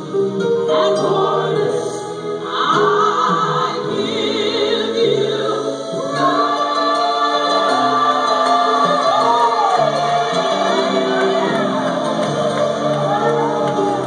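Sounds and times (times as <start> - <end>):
choir and solo voice singing: 0.0 - 14.0
keyboard and bass: 0.0 - 14.0.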